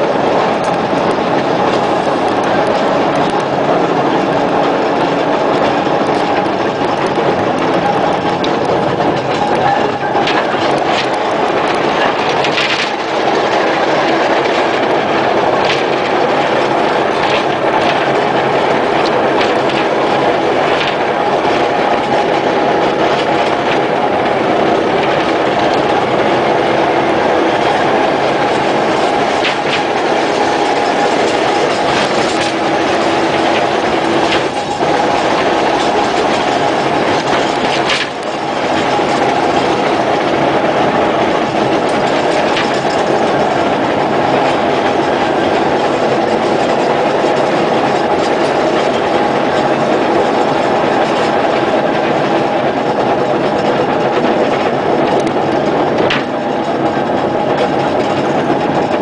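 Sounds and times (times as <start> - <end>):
rail vehicle humming: 0.0 - 59.0
wheels clicking over rail joints: 0.0 - 59.0.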